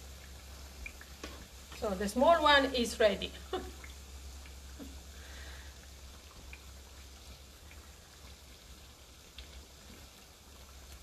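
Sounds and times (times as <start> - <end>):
dough sizzling in oil: 0.0 - 11.0.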